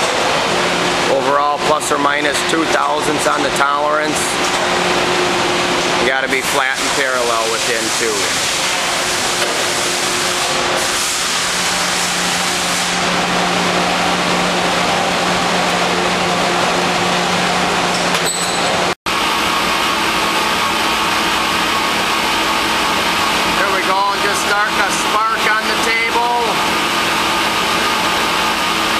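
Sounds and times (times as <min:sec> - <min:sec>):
surface grinder running: 0:00.0 - 0:28.9.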